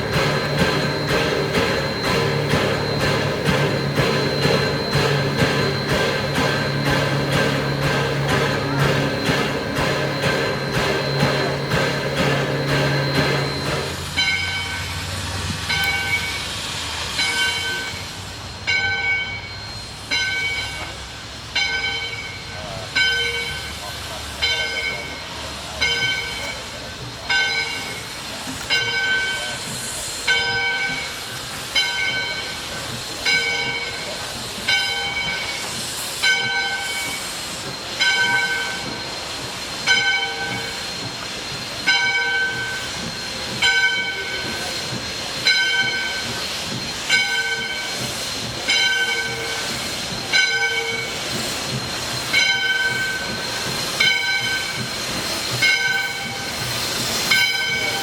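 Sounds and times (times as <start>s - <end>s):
locomotive bell ringing: 0.0s - 58.0s
steam hissing: 0.0s - 58.0s.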